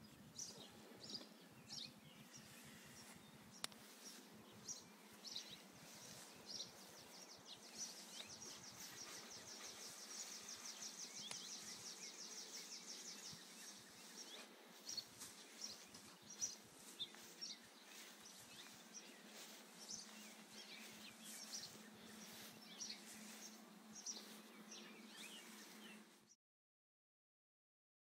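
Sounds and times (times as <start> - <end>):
bird chirps: 0.0 - 26.1.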